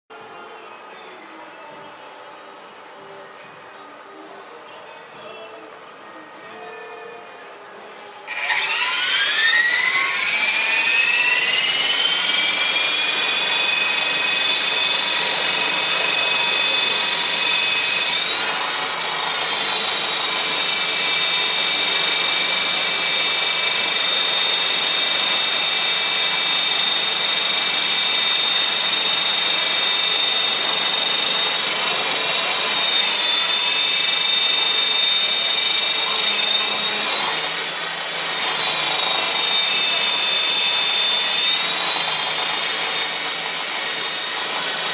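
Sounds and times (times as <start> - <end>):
electric rc helicopter whine: 8.3 - 44.9.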